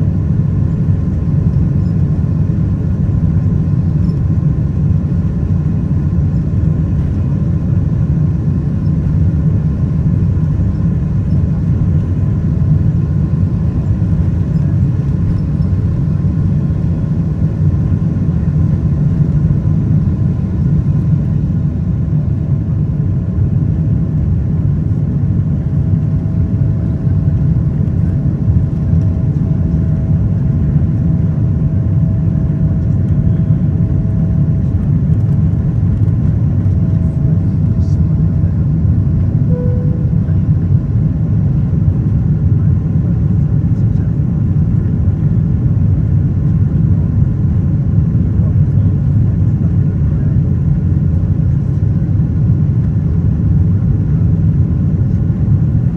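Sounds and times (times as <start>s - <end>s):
faint steady whine: 0.0s - 45.5s
airliner cabin engine rumble: 0.0s - 55.9s.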